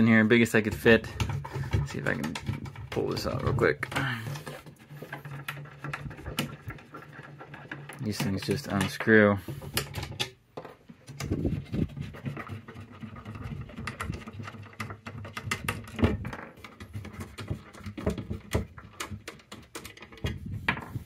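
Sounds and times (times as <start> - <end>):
metal scraping on wood: 0.0 - 21.0.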